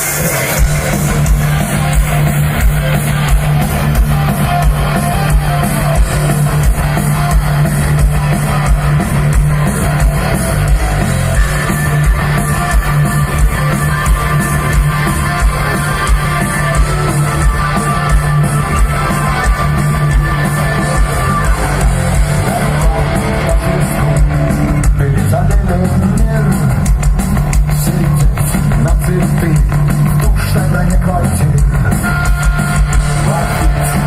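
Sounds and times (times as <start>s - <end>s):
rock band playing live: 0.0s - 34.0s.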